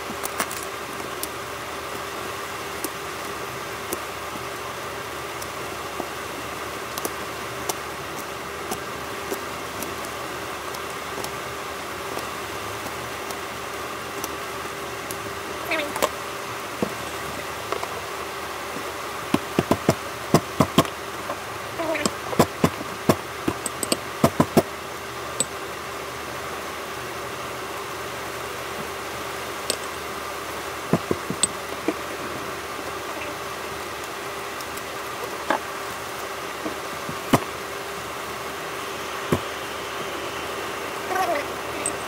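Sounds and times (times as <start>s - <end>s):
steady background hum: 0.0s - 42.0s.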